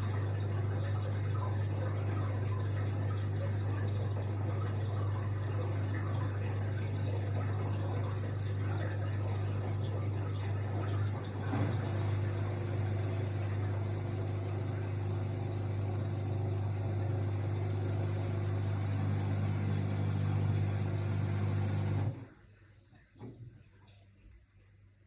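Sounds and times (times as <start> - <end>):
washing machine running: 0.0 - 22.6
water noise: 0.0 - 24.4.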